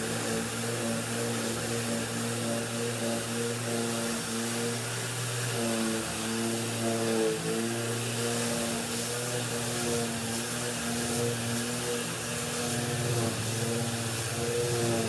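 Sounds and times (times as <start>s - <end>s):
sander and vacuum motor hum: 0.0s - 15.0s.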